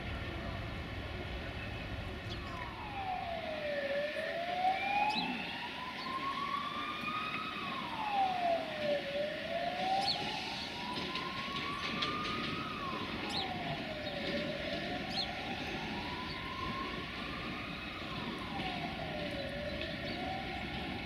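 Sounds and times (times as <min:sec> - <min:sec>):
emergency siren wailing: 0:02.4 - 0:21.0
higher siren tone: 0:02.4 - 0:21.0.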